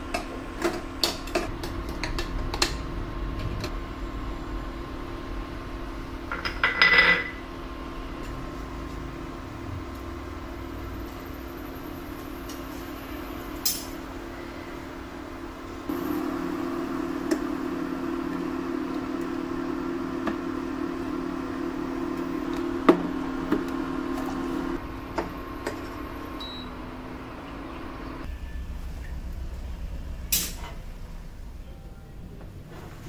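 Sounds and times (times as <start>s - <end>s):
cooktop humming: 0.0s - 31.8s.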